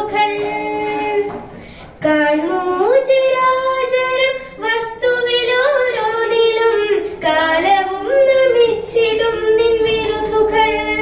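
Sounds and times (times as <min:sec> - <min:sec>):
girls singing into a microphone: 0:00.0 - 0:11.0.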